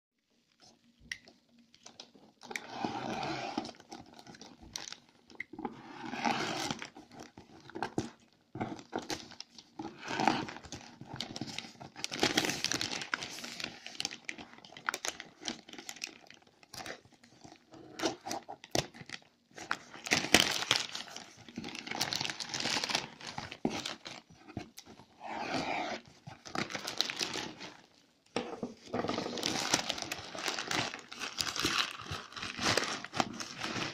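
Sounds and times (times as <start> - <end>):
plastic wrap crinkling and tearing: 1.4 - 28.2, 28.8 - 33.9.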